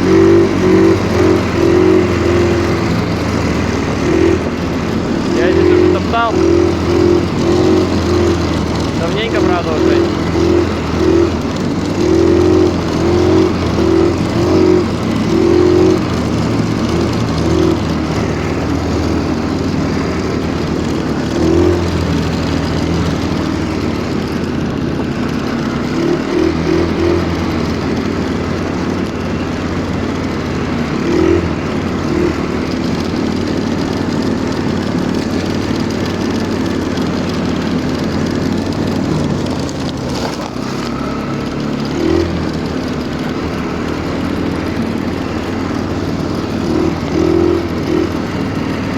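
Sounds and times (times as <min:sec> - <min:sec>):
snowmobile engine running under load: 0:00.0 - 0:48.9.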